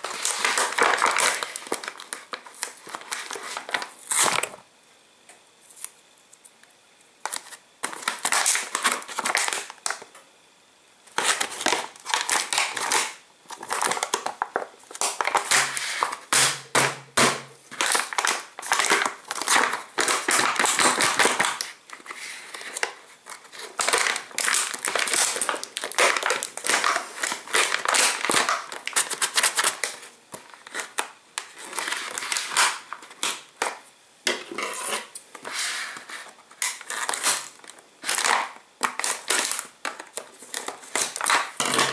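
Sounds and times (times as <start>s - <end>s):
plastic packaging crinkling: 0.0s - 4.6s, 7.2s - 10.1s, 11.1s - 16.5s, 17.7s - 33.8s, 34.8s - 41.9s.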